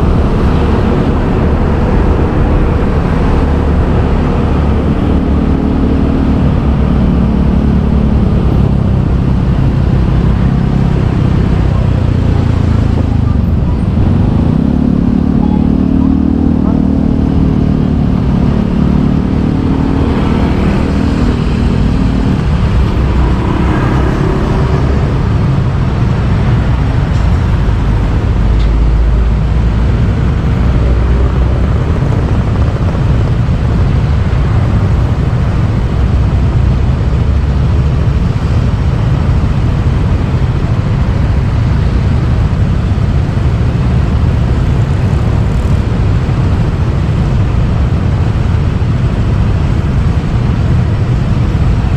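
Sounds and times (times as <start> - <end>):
engine hum: 0.0 - 51.9
motorbike engine rumble: 0.0 - 51.9.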